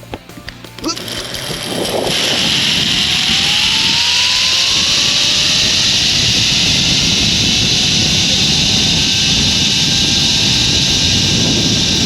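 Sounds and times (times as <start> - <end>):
zip-line trolley whirring on cable: 0.9 - 12.0
faint rising whine: 1.0 - 12.0.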